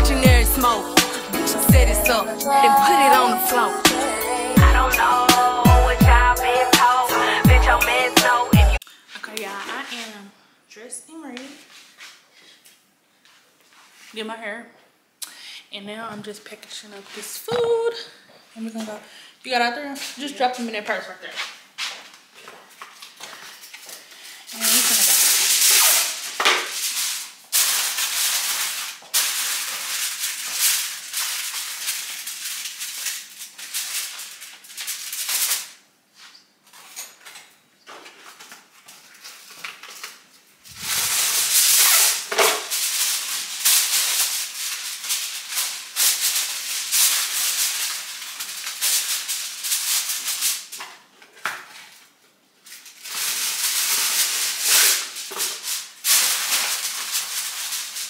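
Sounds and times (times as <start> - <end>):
plastic bag and foil crinkling: 0.0 - 10.2, 20.0 - 58.0.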